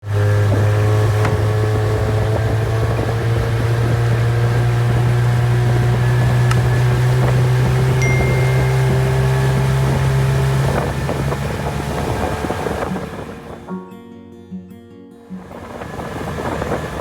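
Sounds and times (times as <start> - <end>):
outboard motor running: 0.0 - 13.7, 15.4 - 17.0.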